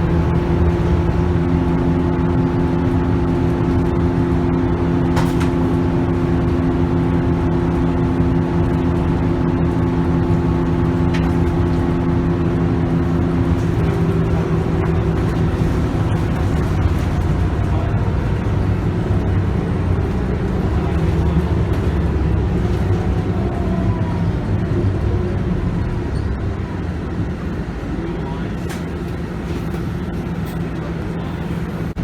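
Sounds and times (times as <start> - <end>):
bus engine rumble: 0.0 - 32.0.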